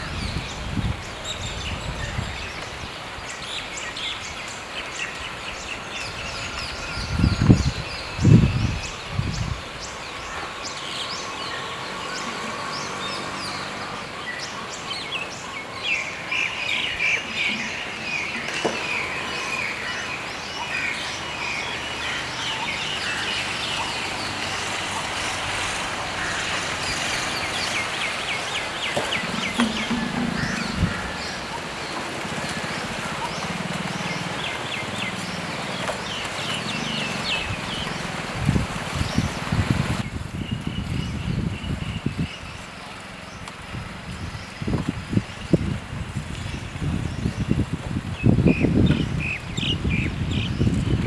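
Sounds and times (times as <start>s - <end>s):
outdoor background noise: 0.0s - 51.0s.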